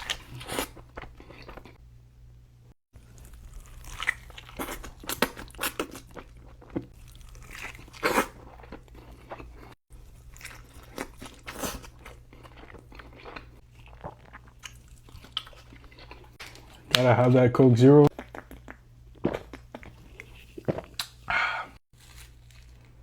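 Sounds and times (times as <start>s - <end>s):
person chewing food: 0.0s - 1.8s, 3.0s - 17.0s, 18.1s - 23.0s.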